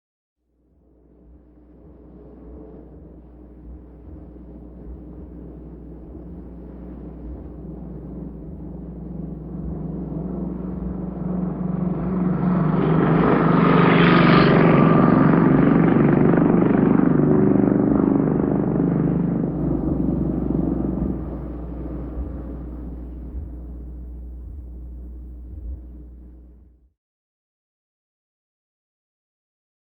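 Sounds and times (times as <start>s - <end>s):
motorcycle engine passing by: 2.1s - 26.6s.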